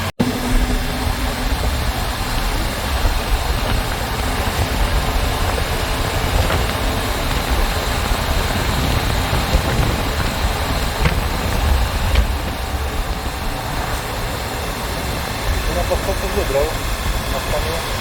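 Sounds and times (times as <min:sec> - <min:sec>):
motorcycle engine drone: 0:00.0 - 0:18.0
wind and road noise: 0:00.0 - 0:18.0.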